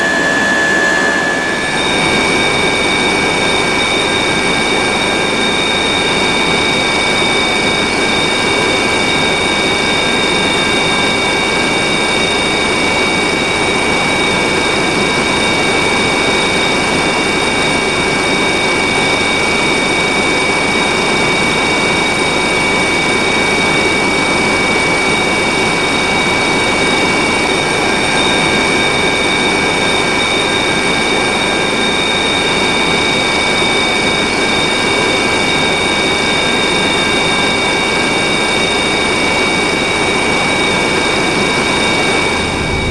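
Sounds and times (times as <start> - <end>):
helicopter turbine and rotor noise: 0.0 - 42.9
high steady whine: 0.0 - 42.9.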